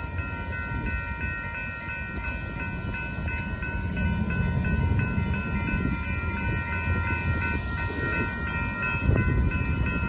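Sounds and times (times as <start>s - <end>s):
freight train rumbling: 0.0s - 10.0s
railroad crossing bell ringing: 0.0s - 10.0s.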